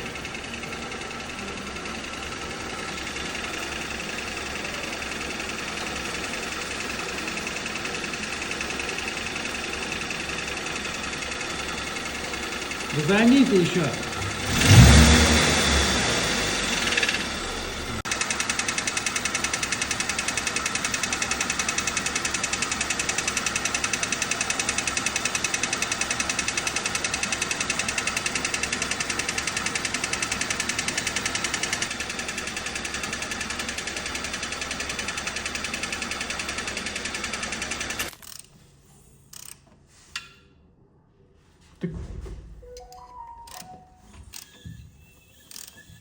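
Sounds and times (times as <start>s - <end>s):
engine running with metallic knocking: 0.0s - 38.1s.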